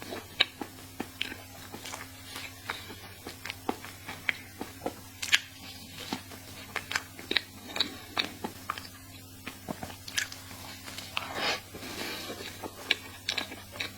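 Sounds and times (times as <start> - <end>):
mouth chewing clicks and smacks: 0.0 - 11.3, 12.3 - 13.9.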